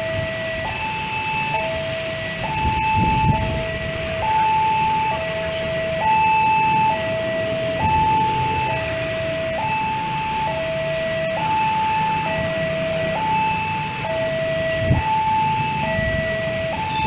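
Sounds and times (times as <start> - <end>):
low rumble of vehicles: 0.0 - 17.0
two-tone hi-lo siren: 0.0 - 17.0.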